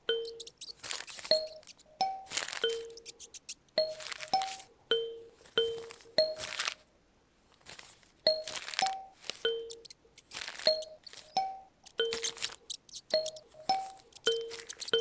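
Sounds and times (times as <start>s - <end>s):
paper rustling: 0.2s - 4.7s, 5.4s - 15.0s.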